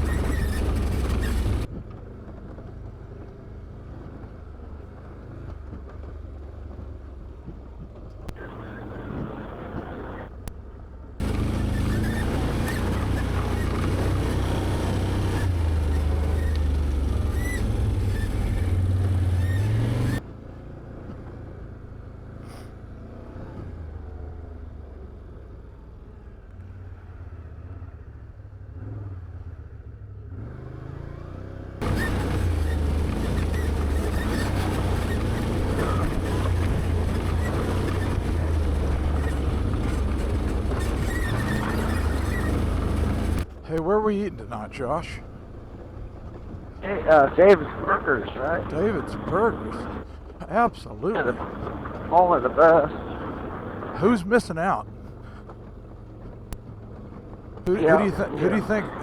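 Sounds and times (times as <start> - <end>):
atv engine revving: 0.0 - 7.5, 8.2 - 10.5, 11.2 - 25.6, 26.3 - 59.0.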